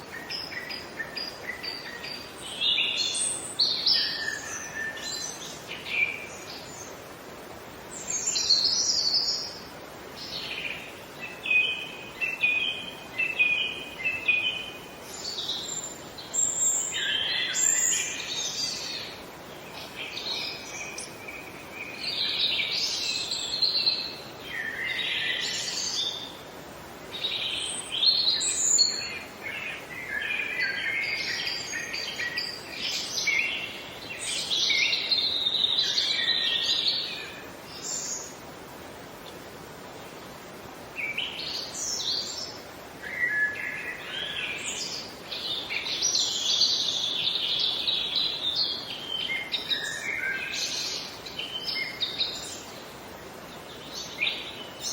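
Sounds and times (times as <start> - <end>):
birds singing and chirping: 0.0 - 7.0, 10.2 - 26.5, 27.1 - 38.4, 41.0 - 54.9
outdoor background hiss: 0.0 - 54.9.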